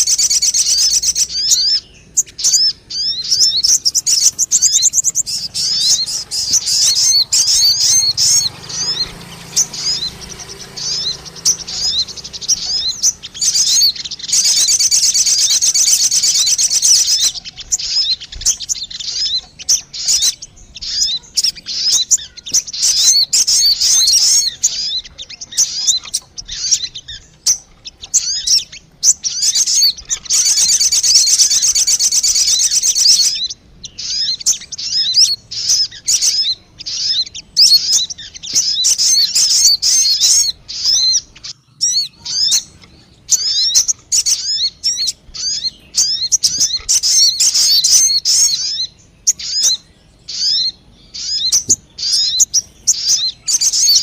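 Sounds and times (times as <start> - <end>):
bird song chirps and trills: 0.0 - 54.0.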